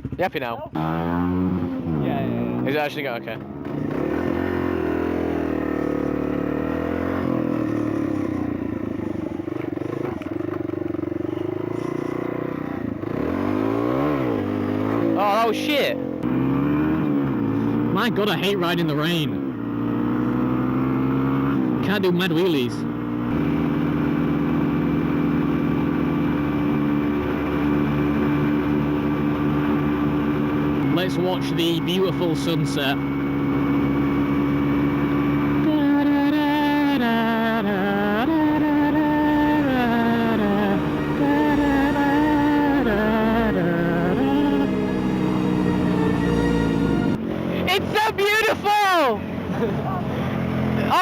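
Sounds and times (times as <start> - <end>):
motorcycle engine at high revs: 0.0 - 47.8.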